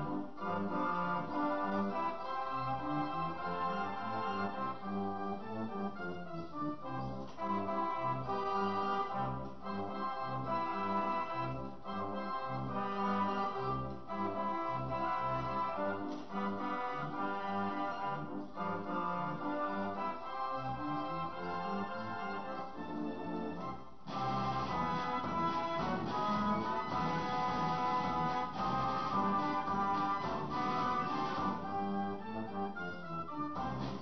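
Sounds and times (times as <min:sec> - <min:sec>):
organ music: 0:00.0 - 0:34.0.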